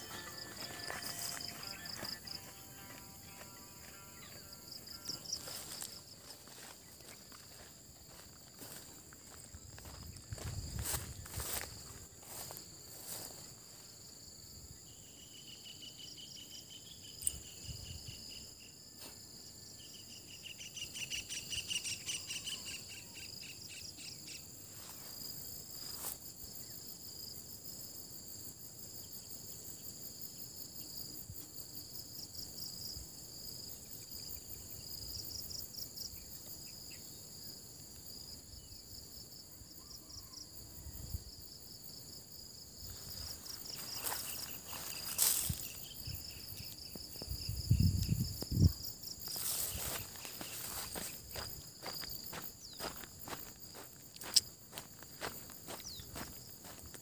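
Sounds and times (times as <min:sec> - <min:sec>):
insects chorus: 0:00.0 - 0:57.0
pulsing insect trill: 0:00.0 - 0:57.0.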